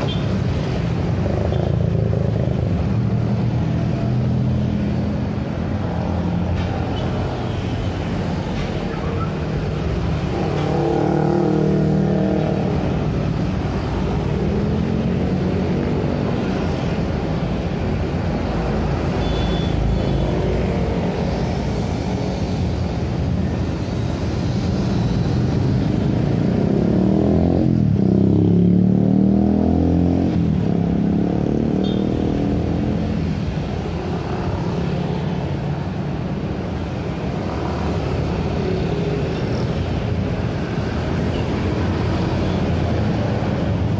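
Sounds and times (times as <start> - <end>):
cars and scooters passing: 0.0 - 43.9.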